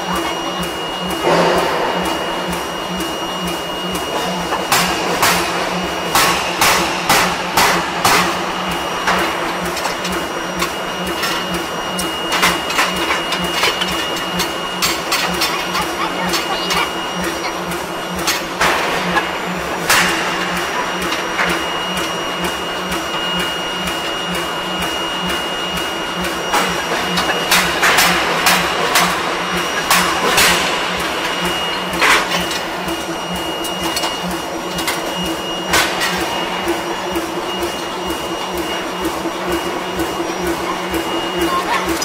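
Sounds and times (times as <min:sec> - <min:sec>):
rolling machine drone and whine: 0:00.0 - 0:42.0.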